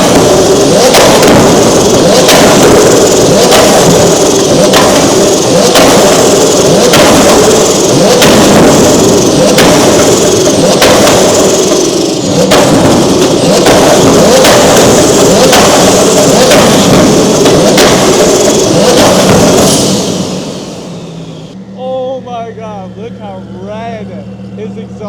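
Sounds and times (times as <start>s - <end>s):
sports car engine revving: 0.0s - 21.7s
exhaust bangs: 0.0s - 21.8s.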